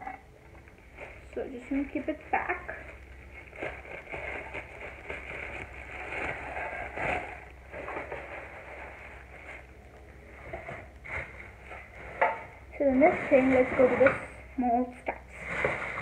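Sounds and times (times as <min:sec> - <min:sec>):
steady low hum: 0:00.0 - 0:16.0
plastic packaging crinkling: 0:00.5 - 0:14.0.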